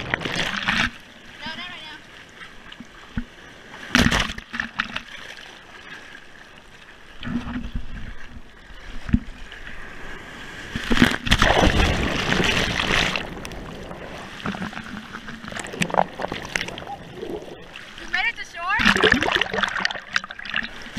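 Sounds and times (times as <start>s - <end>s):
surf splashing: 0.0s - 20.9s.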